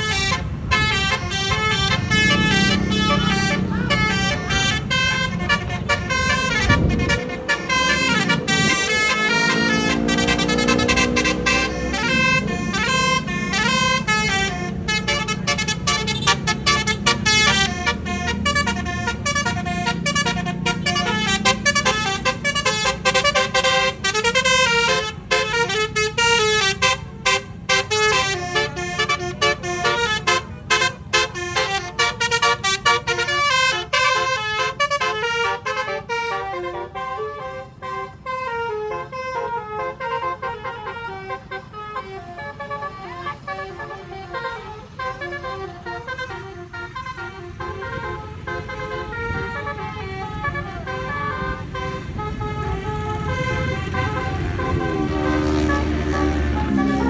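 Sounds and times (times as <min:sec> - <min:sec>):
bus horn playing a melody: 0:00.0 - 0:57.0.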